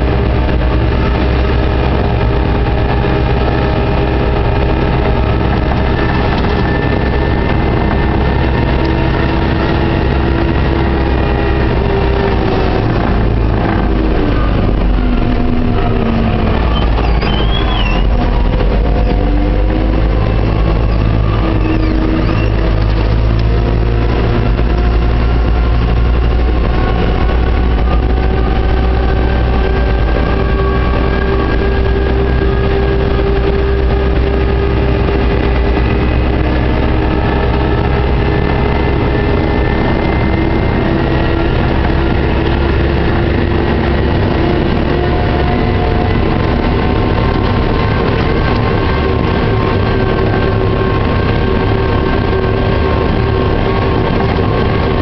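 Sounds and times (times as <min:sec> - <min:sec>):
diesel engine drone with whine: 0:00.0 - 0:55.0.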